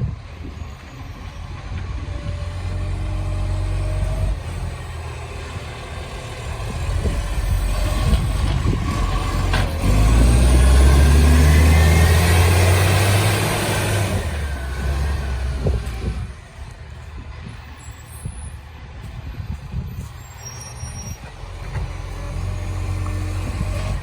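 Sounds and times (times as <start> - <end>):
diesel truck engine revving: 0.0 - 18.8, 20.2 - 24.0.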